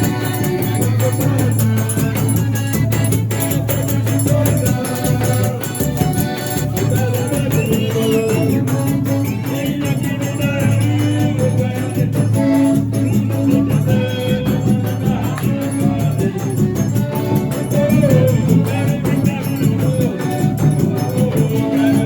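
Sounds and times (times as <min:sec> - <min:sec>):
folk dance music with steady beat: 0:00.0 - 0:22.0.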